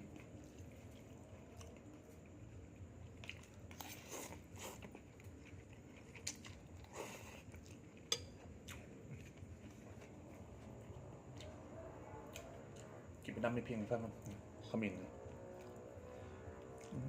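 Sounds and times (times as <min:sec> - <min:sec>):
person chewing crunchy food: 0:00.0 - 0:13.2, 0:15.2 - 0:17.0.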